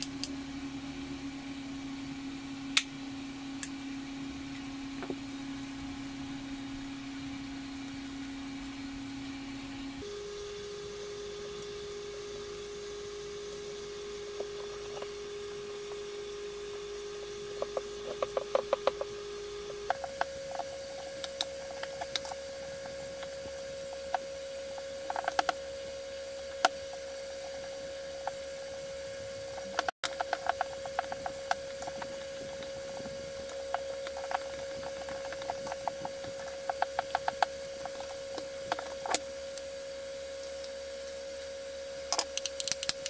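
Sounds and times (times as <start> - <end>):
steady held tone: 0.0 - 42.4.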